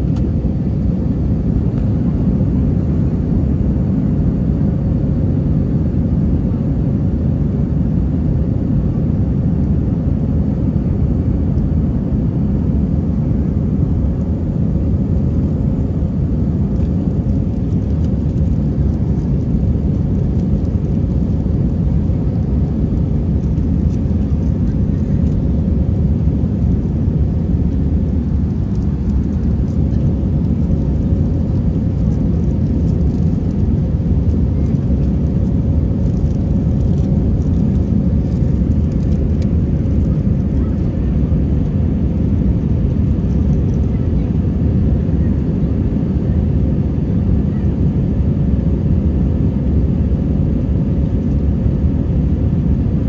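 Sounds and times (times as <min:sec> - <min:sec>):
airplane cabin rumble: 0:00.0 - 0:53.0
faint steady hum: 0:00.0 - 0:53.0.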